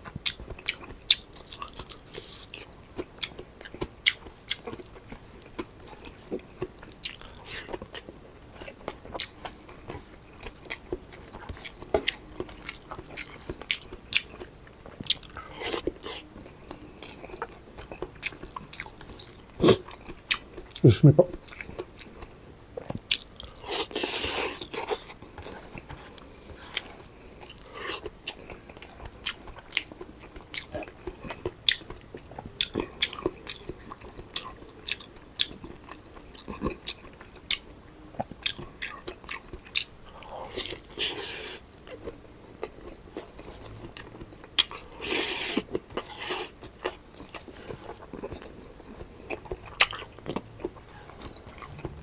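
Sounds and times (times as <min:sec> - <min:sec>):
person chewing food: 0:00.0 - 0:52.0.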